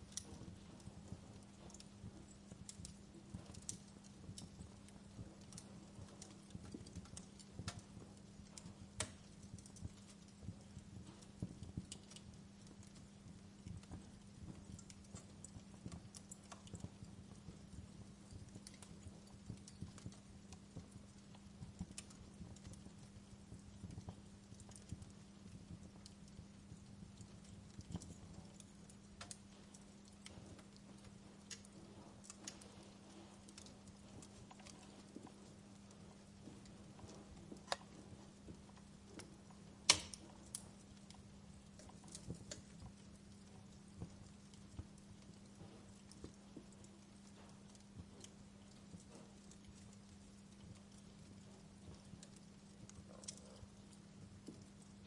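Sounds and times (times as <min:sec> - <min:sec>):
faint low hum: 0:00.0 - 0:55.0
wood fire crackling: 0:00.0 - 0:55.0.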